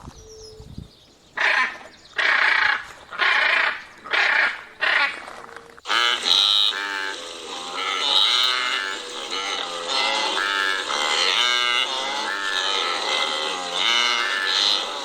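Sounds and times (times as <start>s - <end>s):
animal calling: 1.4s - 15.0s.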